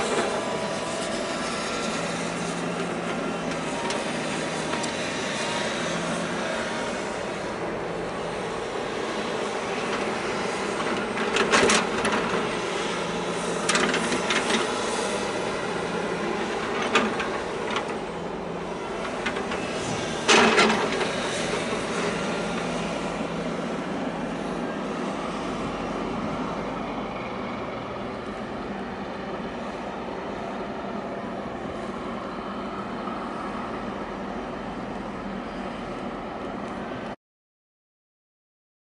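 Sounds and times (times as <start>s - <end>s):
boat engine drone: 0.0s - 37.2s
harbour background rumble and hiss: 0.0s - 37.2s.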